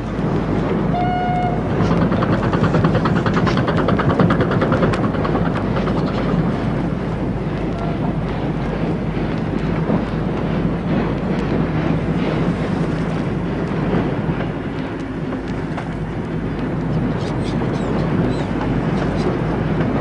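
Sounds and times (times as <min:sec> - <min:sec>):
low engine rumble: 0:00.0 - 0:20.0
wind-like noise: 0:00.0 - 0:20.0.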